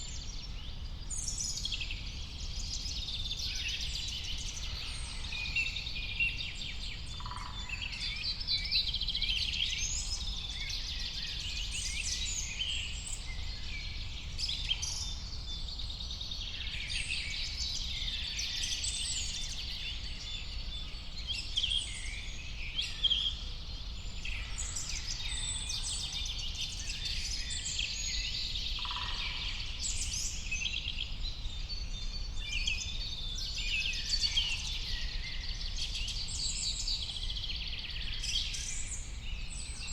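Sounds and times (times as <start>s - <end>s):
chorus of songbirds: 0.0s - 39.9s.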